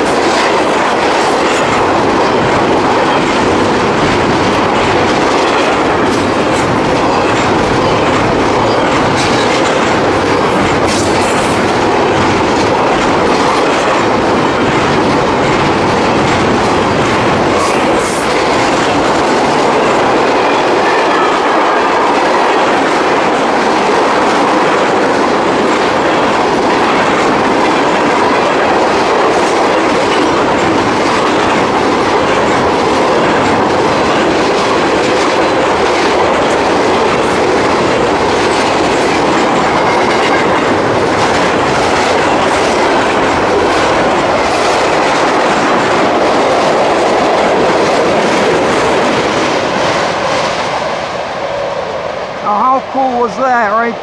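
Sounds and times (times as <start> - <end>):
wheels clickety-clack: 0.0 - 50.8
freight train wheels rumbling: 0.0 - 54.0.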